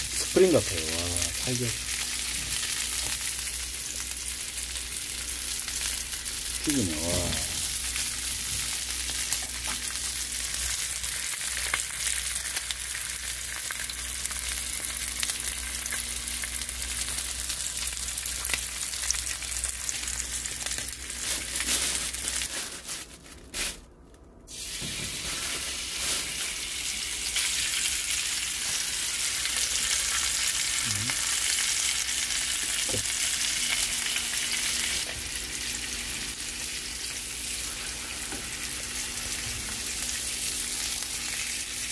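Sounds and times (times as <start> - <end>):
pork sizzling in a frying pan: 0.0 - 22.5, 24.5 - 41.9.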